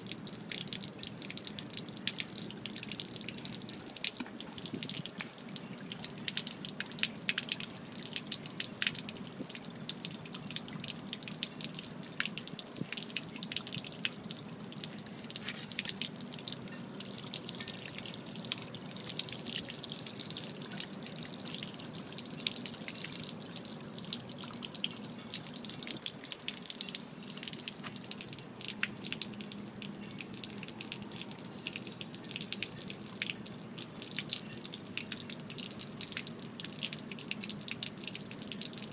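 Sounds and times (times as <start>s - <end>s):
water splattering onto pavement: 0.1s - 38.9s.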